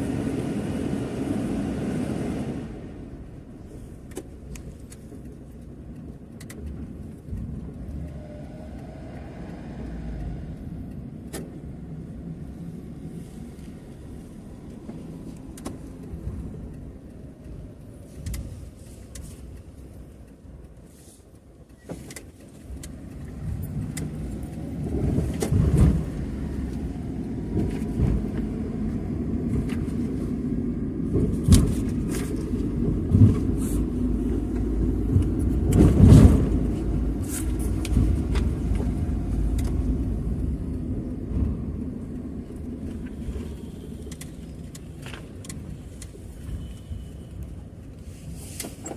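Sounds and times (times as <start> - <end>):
motor vehicle rumble: 0.0 - 48.9.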